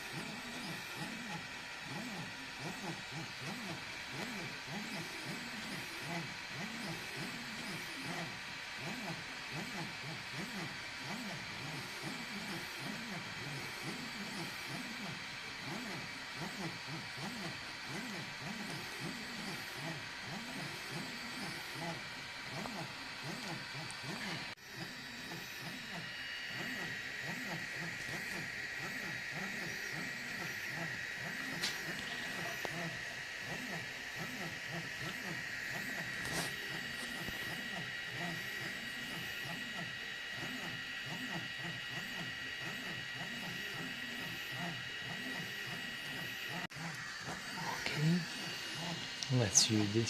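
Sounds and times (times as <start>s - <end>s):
stepper motor whines: 0.0s - 50.0s.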